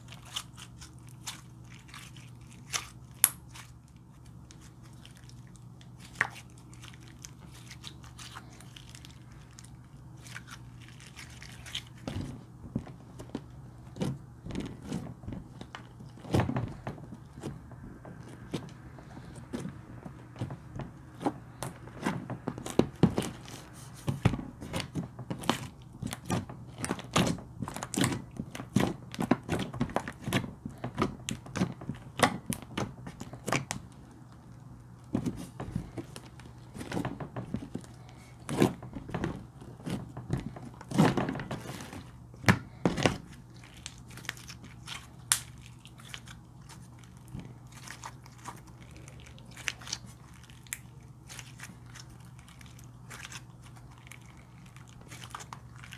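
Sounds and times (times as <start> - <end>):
hands squishing slime: 0.0 - 55.9.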